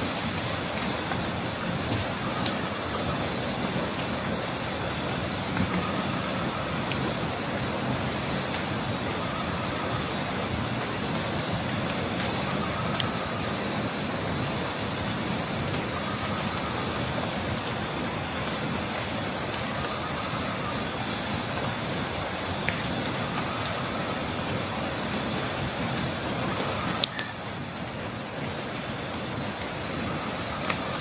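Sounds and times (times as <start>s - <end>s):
insect chorus: 0.0s - 31.0s.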